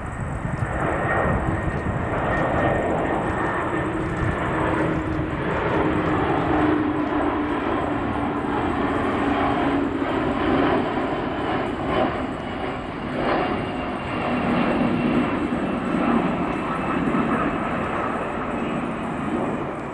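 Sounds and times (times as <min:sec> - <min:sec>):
jet engine rumble overhead: 0:00.0 - 0:19.9.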